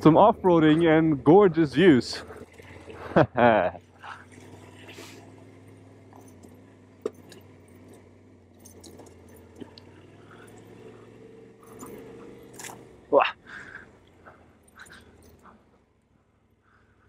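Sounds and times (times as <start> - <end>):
motorcycle engine running at low revs: 0.0 - 16.1.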